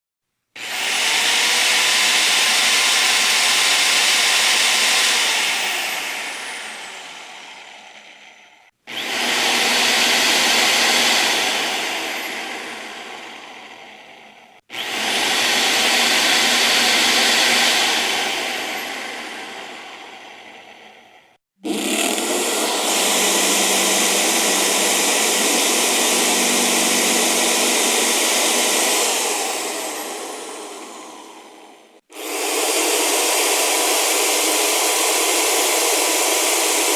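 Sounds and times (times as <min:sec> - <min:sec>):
electric drill running: 0:00.6 - 0:36.9.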